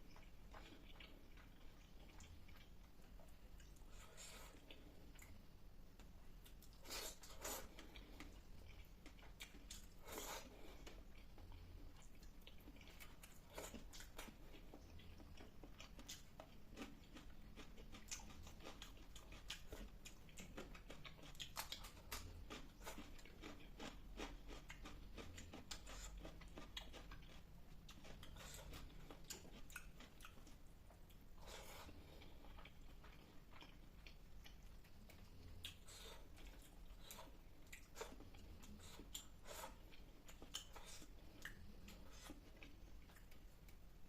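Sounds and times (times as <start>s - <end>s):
person chewing: 0.0s - 44.0s.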